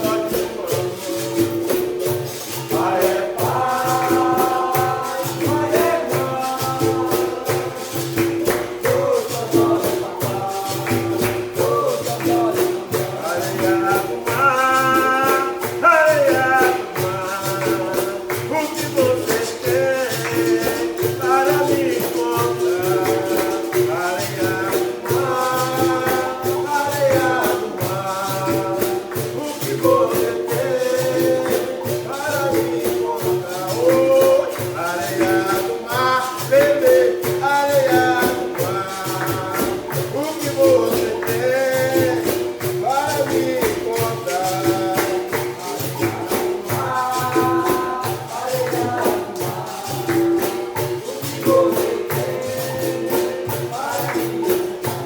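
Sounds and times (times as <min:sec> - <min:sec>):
group call-and-response singing: 0:00.0 - 0:55.0
tambourine and percussion beat: 0:00.0 - 0:55.0.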